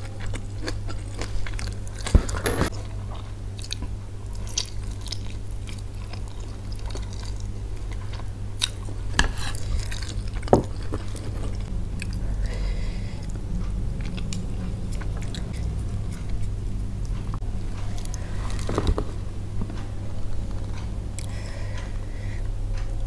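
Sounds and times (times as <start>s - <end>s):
close chewing and mouth sounds: 0.0s - 23.0s
low hum: 0.0s - 23.0s.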